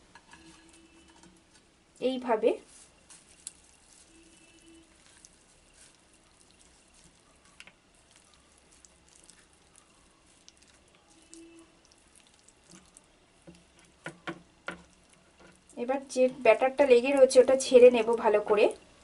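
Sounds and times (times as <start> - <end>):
wet squelches of batter: 0.5 - 15.8.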